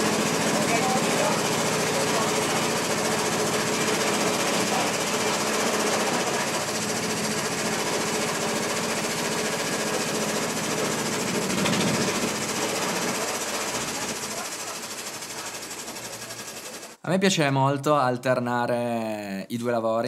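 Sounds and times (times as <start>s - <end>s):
engine running with rhythmic chatter: 0.0s - 17.0s.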